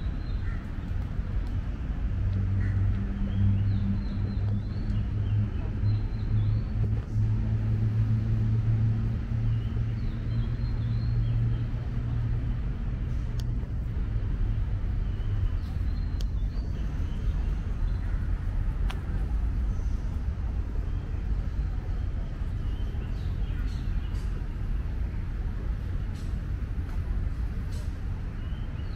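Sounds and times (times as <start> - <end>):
deep engine hum: 0.0 - 28.9
traffic rumble: 0.0 - 28.9.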